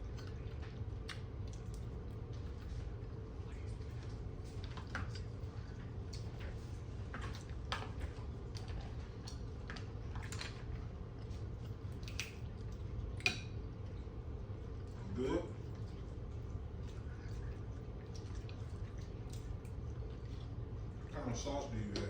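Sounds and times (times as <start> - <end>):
chewing with wet smacks: 0.0 - 22.0
steady low hum: 0.0 - 22.0.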